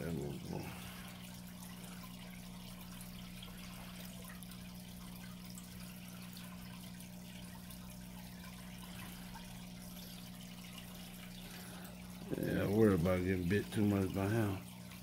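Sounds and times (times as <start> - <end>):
water drips: 0.0 - 15.0
water trickling: 0.0 - 15.0.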